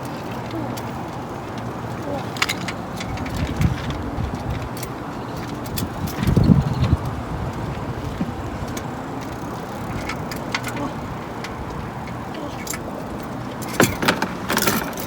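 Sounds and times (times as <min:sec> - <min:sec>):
hand tools clicking and clinking: 0:00.0 - 0:07.0, 0:08.3 - 0:15.0.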